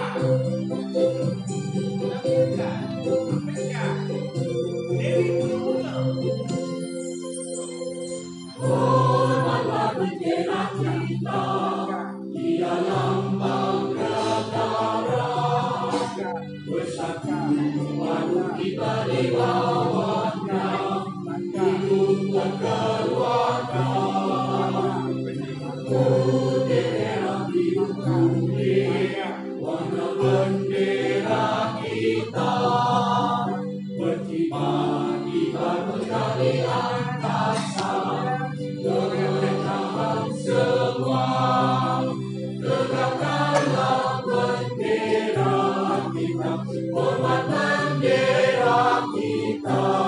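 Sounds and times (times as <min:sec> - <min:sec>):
choir singing: 0:00.0 - 0:03.9, 0:07.4 - 0:50.0
instrumental backing music: 0:00.0 - 0:50.0.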